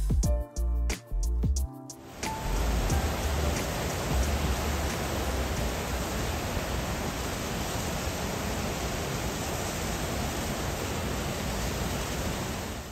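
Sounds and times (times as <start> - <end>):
water rushing from dam: 2.0 - 12.9.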